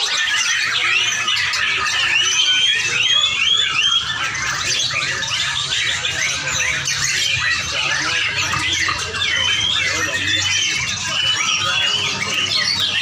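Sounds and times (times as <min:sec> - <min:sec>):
lovebirds chattering: 0:00.0 - 0:13.0.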